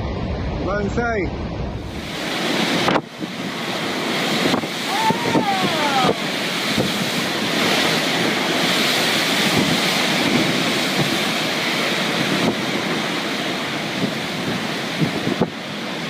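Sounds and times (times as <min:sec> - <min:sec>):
rough sea surf: 0:00.0 - 0:16.0
wind buffeting microphone: 0:00.0 - 0:16.0.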